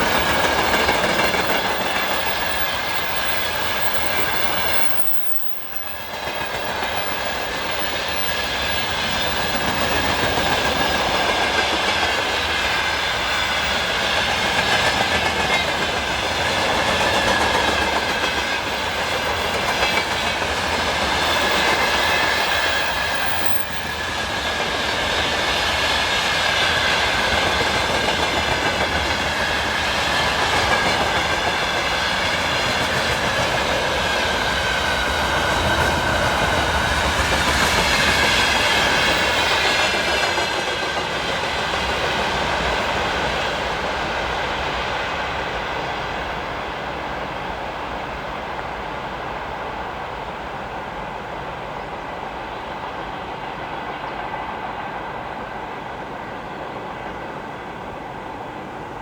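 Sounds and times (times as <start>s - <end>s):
train wheels clattering over rails: 0.0s - 49.4s.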